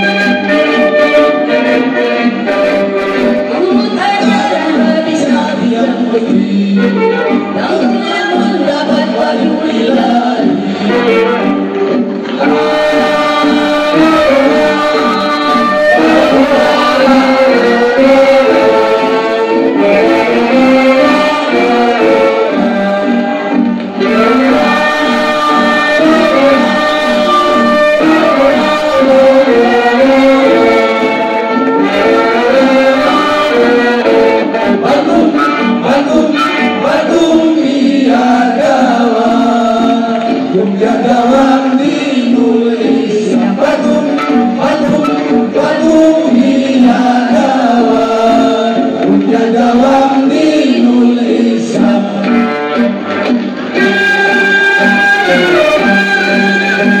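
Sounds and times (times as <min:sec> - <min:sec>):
men's choir singing: 0:00.0 - 0:03.5, 0:04.1 - 0:57.0
instrumental accompaniment: 0:00.0 - 0:57.0.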